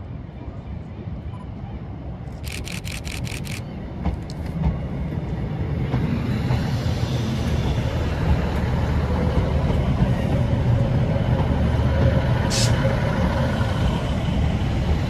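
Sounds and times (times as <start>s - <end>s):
diesel train engines rumbling: 0.1s - 15.0s
train wheels rumbling on rails: 2.3s - 15.0s.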